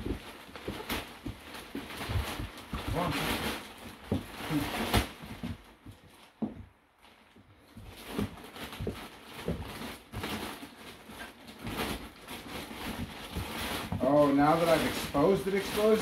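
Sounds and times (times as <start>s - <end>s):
plastic wrapping rustling: 0.0s - 16.0s.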